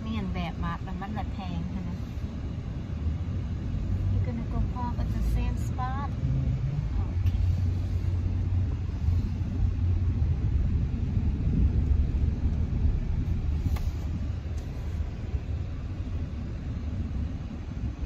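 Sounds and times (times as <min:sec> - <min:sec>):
car engine rumble from cabin: 0:00.0 - 0:18.0.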